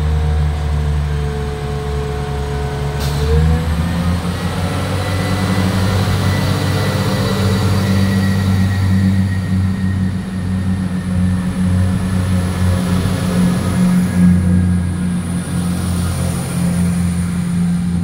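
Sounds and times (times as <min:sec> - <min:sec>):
diesel train engine droning: 0:00.0 - 0:18.0.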